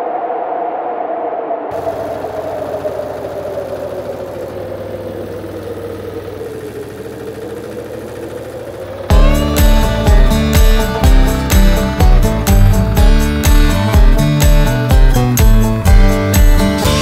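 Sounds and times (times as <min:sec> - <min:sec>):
tiller engine running: 0:01.7 - 0:17.0.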